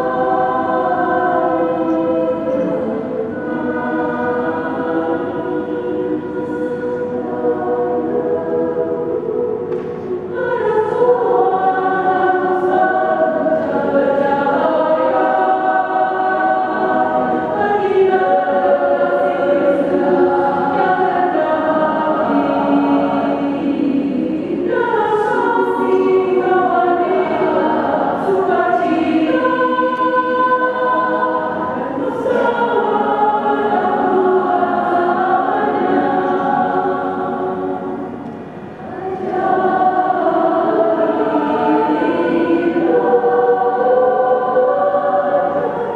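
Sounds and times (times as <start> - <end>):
women's choir singing: 0.0 - 45.9.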